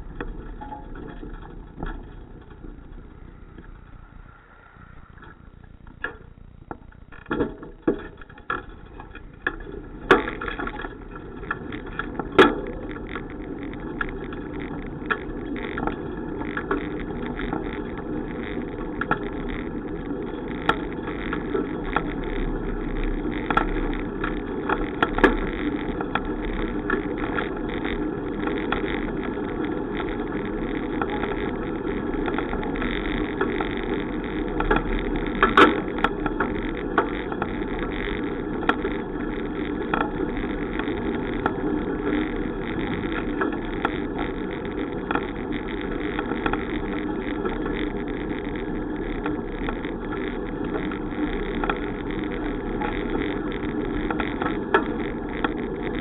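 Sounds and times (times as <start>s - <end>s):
bicycle clicks and rattles: 0.0s - 4.0s, 5.1s - 56.0s
bicycle clatter: 0.0s - 4.3s, 5.0s - 56.0s
bicycle tyre rumble: 0.0s - 56.0s
wind: 0.0s - 56.0s.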